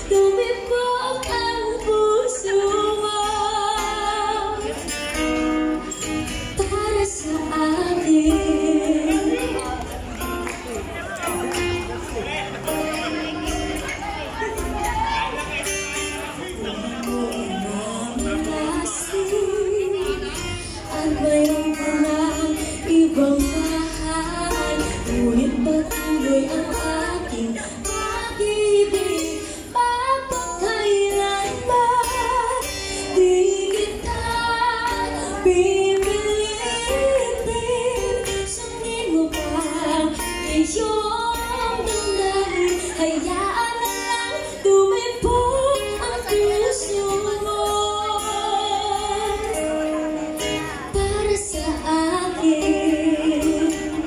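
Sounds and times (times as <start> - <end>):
woman singing a ballad: 0.0 - 9.8, 16.6 - 54.0
strummed acoustic guitar: 0.0 - 54.0.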